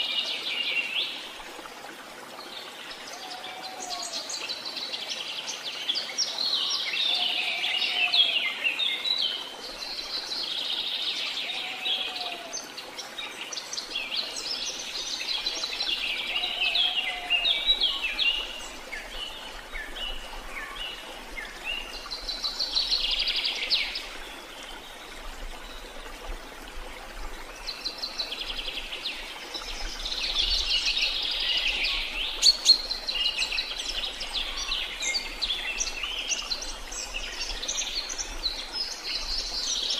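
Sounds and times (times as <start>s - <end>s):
songbirds singing: 2.4s - 26.1s, 27.4s - 39.9s.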